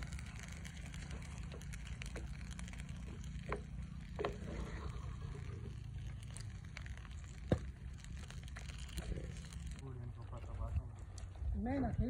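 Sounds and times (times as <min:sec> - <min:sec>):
wooden spoon stirring thick curry: 0:00.0 - 0:09.8.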